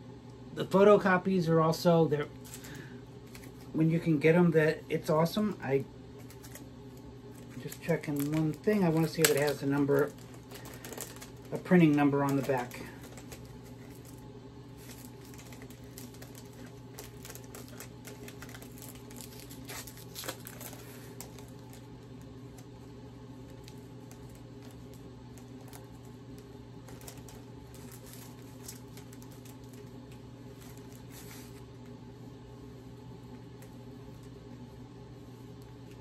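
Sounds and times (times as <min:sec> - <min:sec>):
steady low hum: 0:00.0 - 0:36.0
plastic sleeve crinkling: 0:02.2 - 0:32.0.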